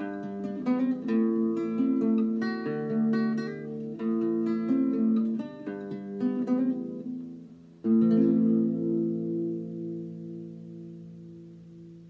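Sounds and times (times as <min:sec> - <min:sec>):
acoustic guitar plucked notes: 0:00.0 - 0:12.0
guitar chord ringing: 0:00.0 - 0:12.0.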